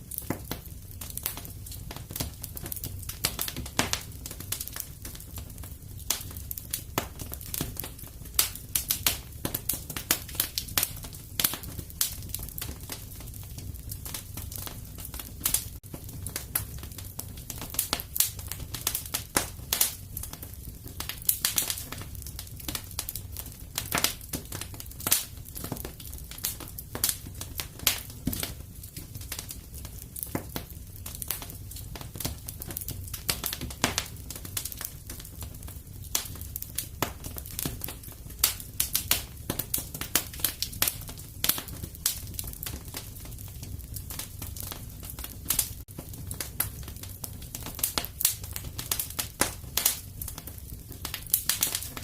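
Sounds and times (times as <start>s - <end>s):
low rumble of flame: 0.0s - 52.0s
wood fire crackling and popping: 0.0s - 52.0s.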